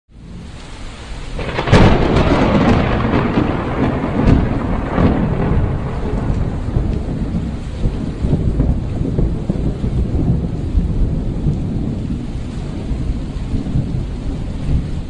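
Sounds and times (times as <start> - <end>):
steady rain: 0.1 - 15.0
rolling thunder: 1.3 - 15.0
thunderclap: 1.4 - 15.0.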